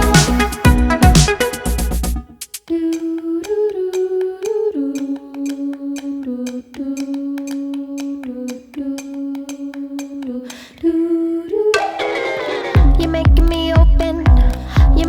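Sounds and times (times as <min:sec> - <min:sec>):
light ticking beat: 0:00.0 - 0:10.6, 0:12.8 - 0:15.0.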